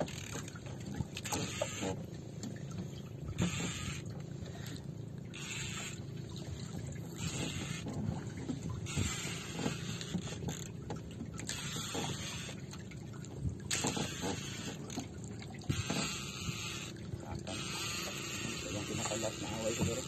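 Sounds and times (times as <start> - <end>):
boat engine humming: 0.0 - 20.0
water washing against hull: 0.0 - 20.0.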